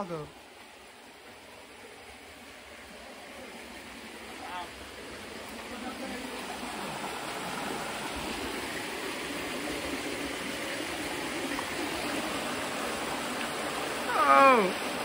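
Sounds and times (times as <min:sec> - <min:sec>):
stream water over rocks: 0:00.0 - 0:15.0.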